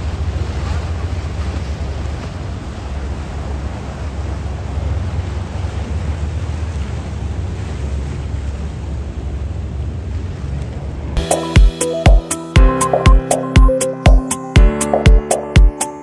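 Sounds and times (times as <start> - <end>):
choppy water washing: 0.0 - 16.0.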